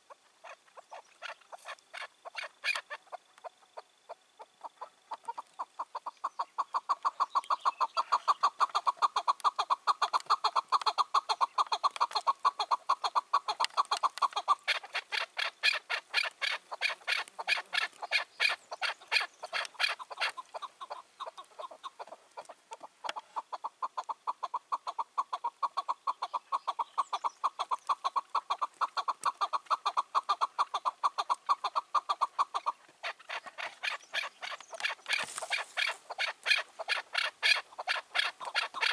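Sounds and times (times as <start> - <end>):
partridges clucking: 4.6 - 38.9.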